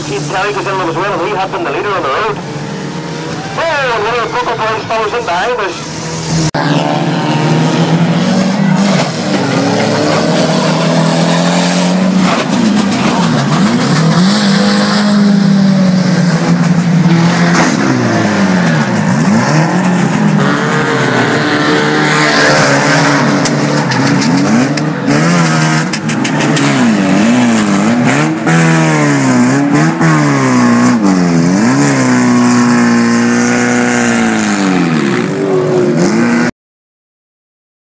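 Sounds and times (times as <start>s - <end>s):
race car engines revving: 0.0s - 36.5s.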